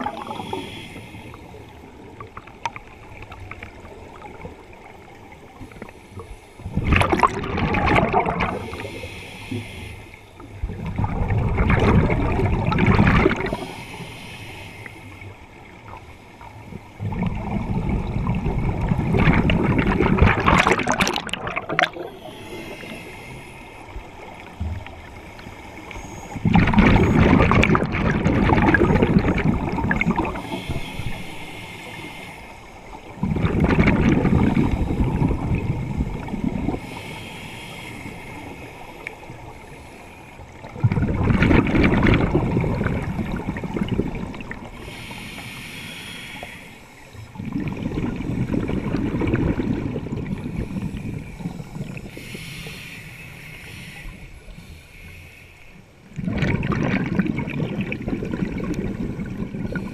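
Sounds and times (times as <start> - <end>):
underwater bubbles gurgling: 0.0 - 55.2, 55.9 - 59.9.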